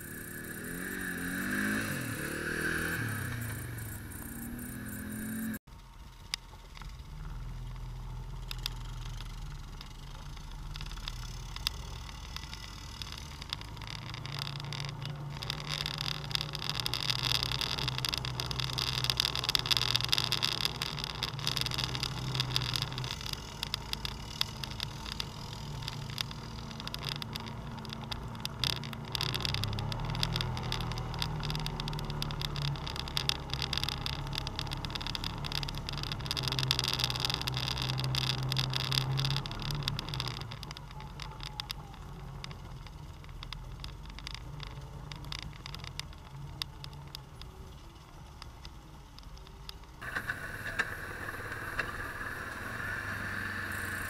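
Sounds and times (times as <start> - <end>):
atv engine running: 0.0 - 54.0
rattling and rustling over ground: 5.7 - 54.0.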